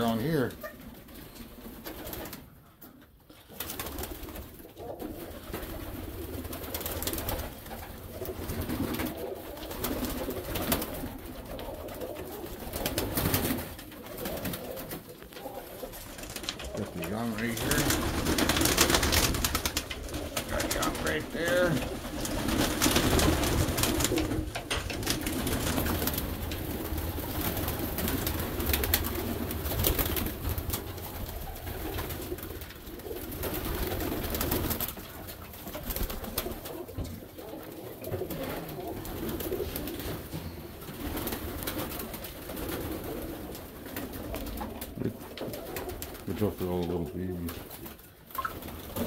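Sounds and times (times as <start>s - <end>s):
pigeons cooing: 0.0s - 49.0s.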